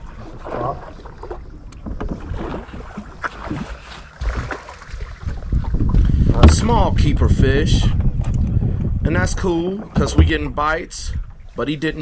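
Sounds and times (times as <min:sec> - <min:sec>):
water lapping against boat hull: 0:00.0 - 0:12.0
wind rumbling on microphone: 0:00.0 - 0:12.0.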